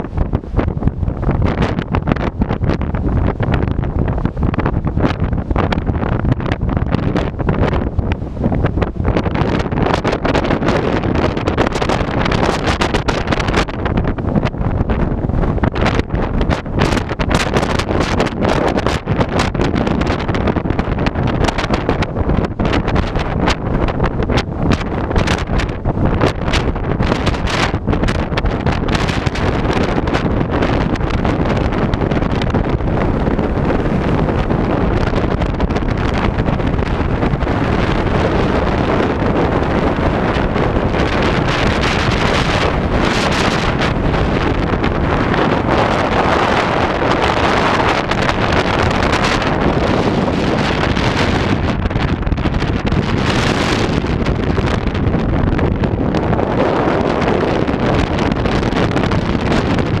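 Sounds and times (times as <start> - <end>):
gusty wind buffeting microphone: 0.0 - 60.0.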